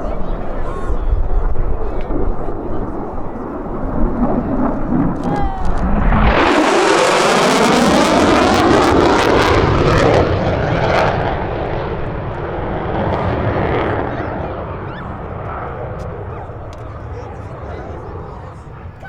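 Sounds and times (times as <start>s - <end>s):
military aircraft roaring past: 0.0s - 19.0s.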